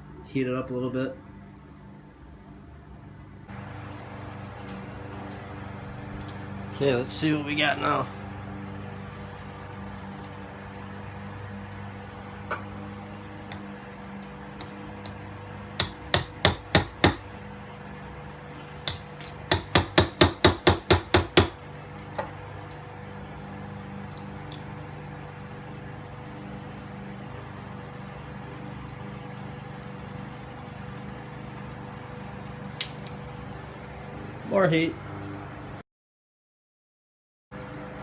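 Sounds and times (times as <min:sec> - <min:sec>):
steady low hum: 0:00.0 - 0:35.8.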